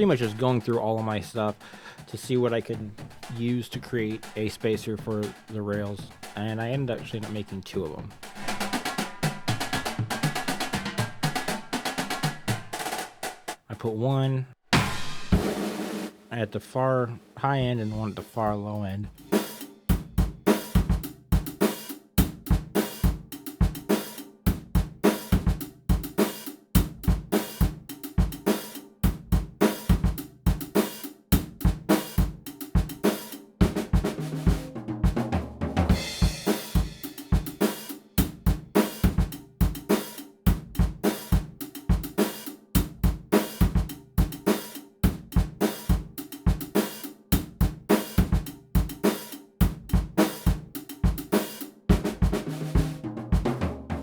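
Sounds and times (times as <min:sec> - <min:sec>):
fast drum kit beat: 0:00.0 - 0:13.9, 0:14.6 - 0:54.0.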